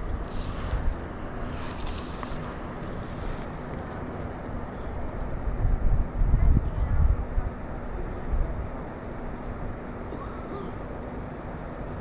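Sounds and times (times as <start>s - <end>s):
wind buffeting microphone: 0.0s - 10.0s
faint steady hum: 0.0s - 12.0s.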